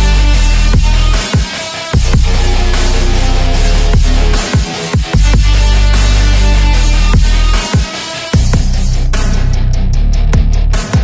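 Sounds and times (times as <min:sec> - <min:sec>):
heavy electronic music: 0:00.0 - 0:09.1.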